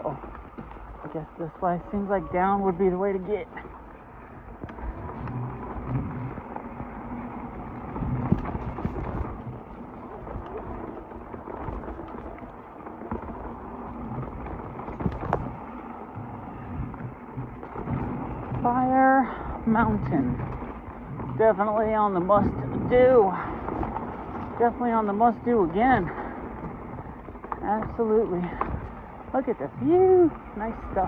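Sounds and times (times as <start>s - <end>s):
bike tyres rumbling on dirt: 0.0s - 31.0s
wind noise: 0.0s - 31.0s.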